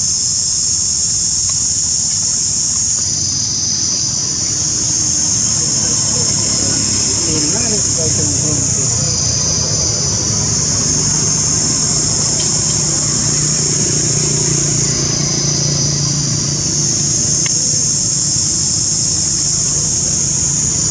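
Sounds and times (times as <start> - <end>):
cicadas buzzing: 0.0 - 20.9
low engine drone: 0.0 - 20.9.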